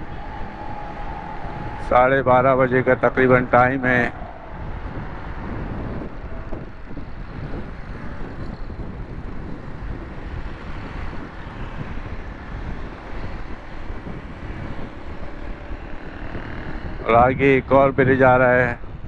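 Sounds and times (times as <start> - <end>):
engine and tyre rumble: 0.0 - 19.0
wind buffeting microphone: 0.0 - 19.0.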